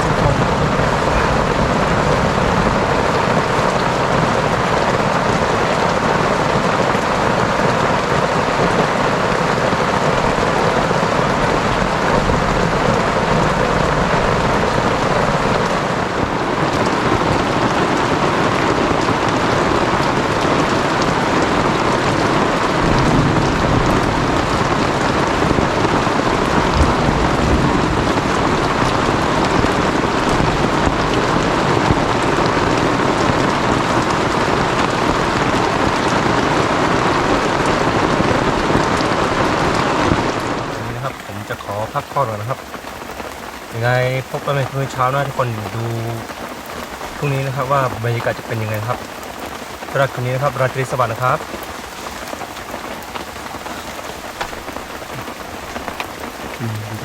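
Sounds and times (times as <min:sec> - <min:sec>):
heavy rain on a tent: 0:00.0 - 0:57.0
wind: 0:00.0 - 0:57.0.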